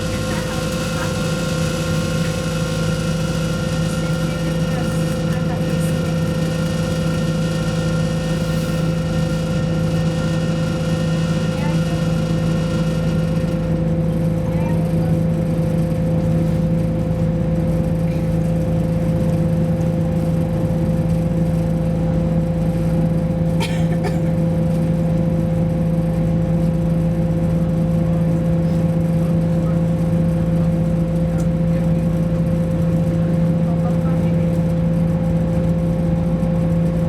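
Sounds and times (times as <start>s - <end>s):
train engine humming on board: 0.0s - 37.0s.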